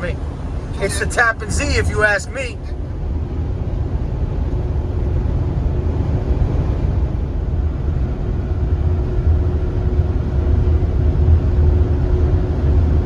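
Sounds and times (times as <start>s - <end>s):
car road and engine rumble: 0.0s - 13.0s
faint steady hum: 0.0s - 13.0s.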